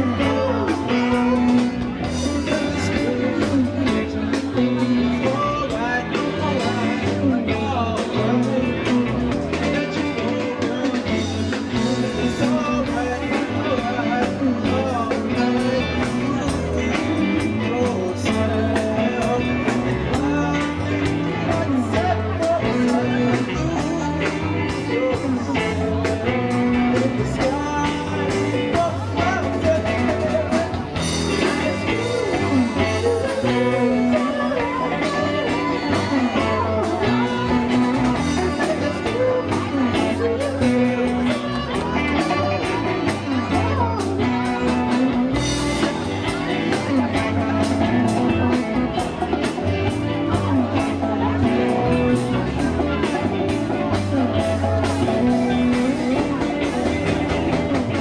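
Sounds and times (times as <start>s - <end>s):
drum kit: 0.0s - 58.0s
electric guitar: 0.0s - 58.0s
keyboard: 0.0s - 58.0s
person singing into microphone: 0.0s - 58.0s.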